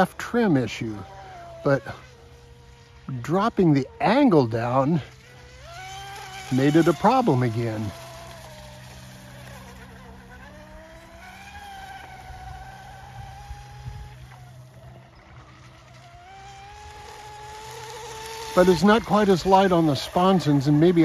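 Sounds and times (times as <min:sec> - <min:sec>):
electric motor high whine: 0:00.0 - 0:21.0.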